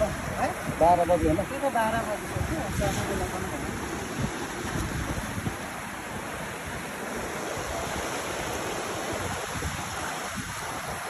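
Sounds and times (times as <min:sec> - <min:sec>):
rushing river water: 0:00.0 - 0:11.0
wind buffeting microphone: 0:00.0 - 0:11.0.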